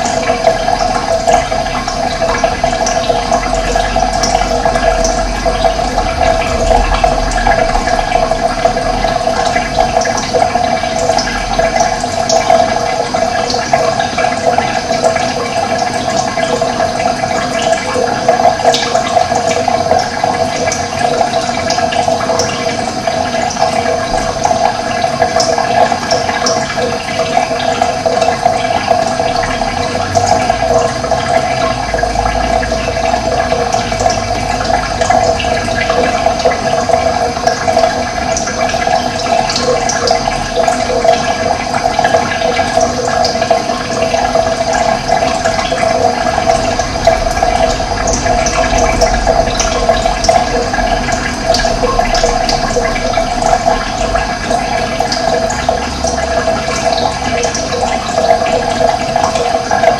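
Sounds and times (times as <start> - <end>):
water rushing and gurgling: 0.0 - 59.9.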